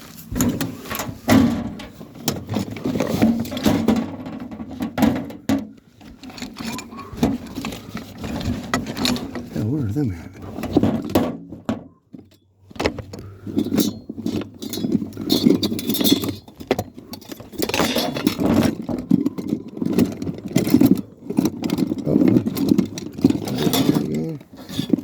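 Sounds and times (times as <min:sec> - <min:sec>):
tools and metal parts clattering: 0:00.0 - 0:25.0.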